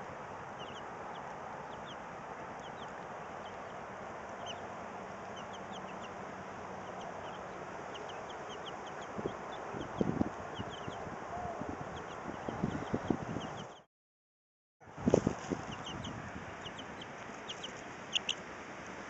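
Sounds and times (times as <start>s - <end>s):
steady outdoor hiss: 0.0s - 13.8s, 14.8s - 19.0s
chicks peeping: 0.5s - 13.8s, 15.0s - 19.0s.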